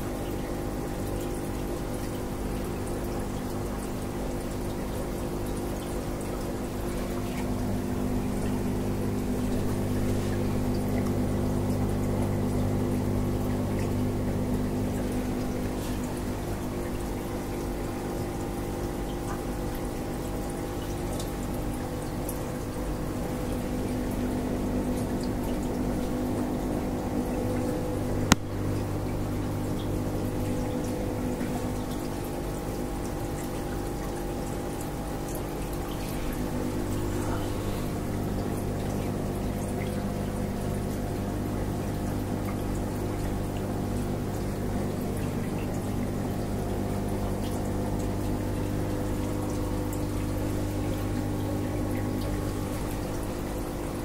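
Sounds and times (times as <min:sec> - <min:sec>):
aquarium pump humming: 0:00.0 - 0:54.0
water trickling and bubbling: 0:00.0 - 0:54.0.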